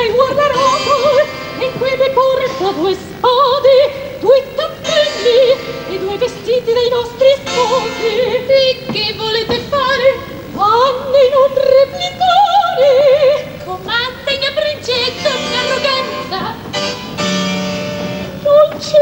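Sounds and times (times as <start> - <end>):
women singing opera: 0.0 - 16.9, 18.2 - 19.0.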